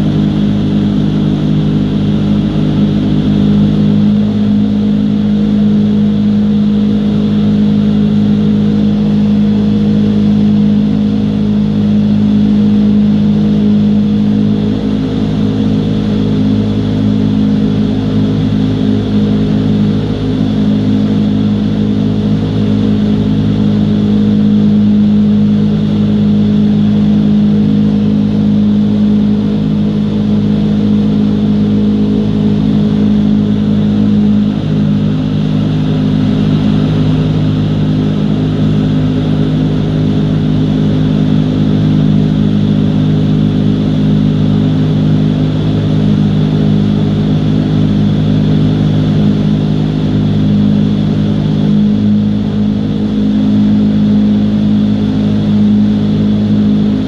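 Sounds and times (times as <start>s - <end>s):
constant low hum: 0.0s - 57.0s.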